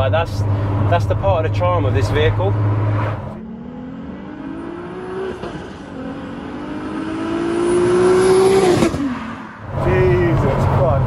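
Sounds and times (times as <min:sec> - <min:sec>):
engine accelerating hard: 0:00.2 - 0:11.0.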